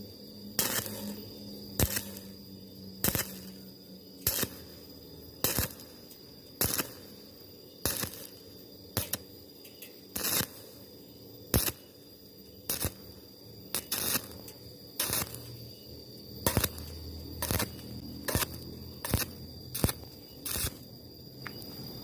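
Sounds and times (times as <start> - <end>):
welding arc crackling: 0.0 - 10.9, 11.5 - 12.0, 12.6 - 21.6.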